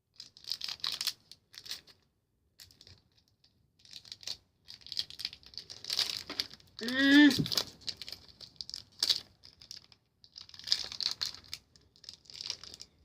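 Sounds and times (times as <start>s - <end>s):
plastic packaging crinkling: 0.2s - 2.0s, 2.6s - 13.0s.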